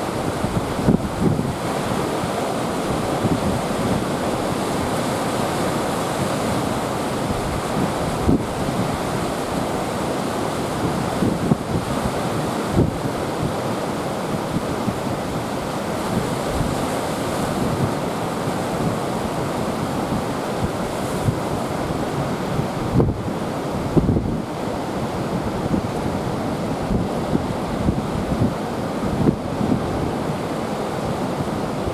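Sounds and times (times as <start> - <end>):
waves breaking: 0.0 - 31.9
wind buffeting microphone: 0.0 - 31.9.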